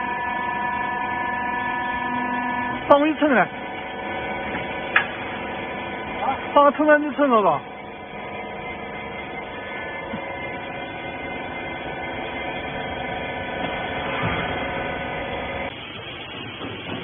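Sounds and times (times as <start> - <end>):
baler motor and hydraulic pump humming: 0.0 - 17.0.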